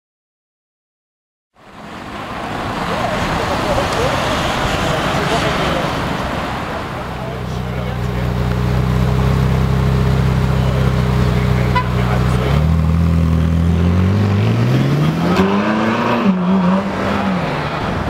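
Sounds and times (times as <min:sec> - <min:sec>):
car engine idling and accelerating: 0:01.6 - 0:18.0.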